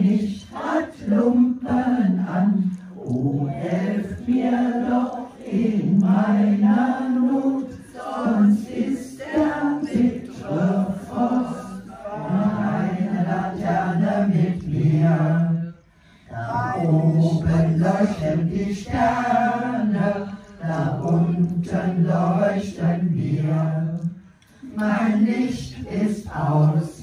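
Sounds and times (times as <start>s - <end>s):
older voices singing together: 0.0s - 27.0s.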